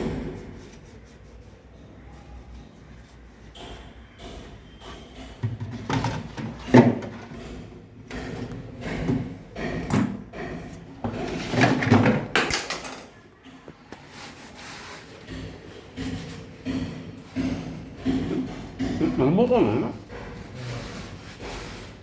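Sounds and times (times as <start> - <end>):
parts and panels knocking and scraping: 3.3 - 22.0.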